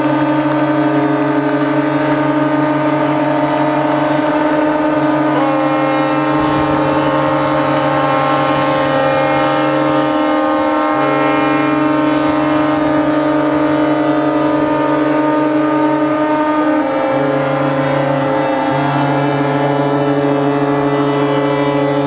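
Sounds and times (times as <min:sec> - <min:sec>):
ships' horns blasting: 0:00.0 - 0:22.0.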